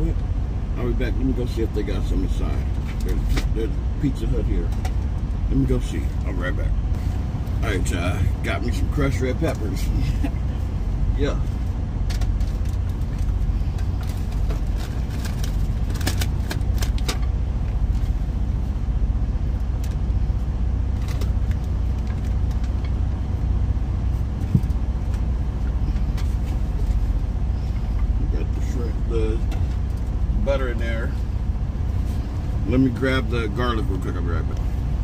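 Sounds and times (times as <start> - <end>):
diesel truck engine idling: 0.0 - 35.0.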